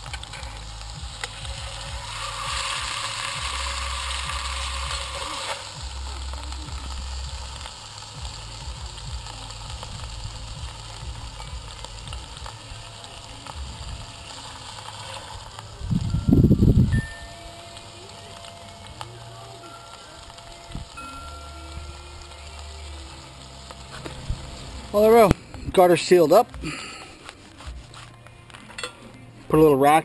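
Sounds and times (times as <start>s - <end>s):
meat sizzling in oil: 0.0s - 28.1s.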